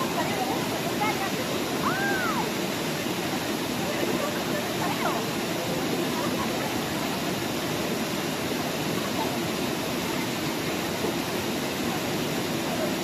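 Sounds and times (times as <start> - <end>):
faint voices: 0.0 - 13.0
river water rushing into pool: 0.0 - 13.0.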